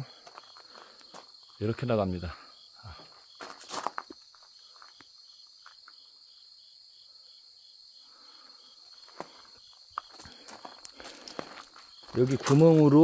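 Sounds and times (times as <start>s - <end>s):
insects trilling: 0.0s - 13.0s
pulsing insect call: 0.0s - 13.0s.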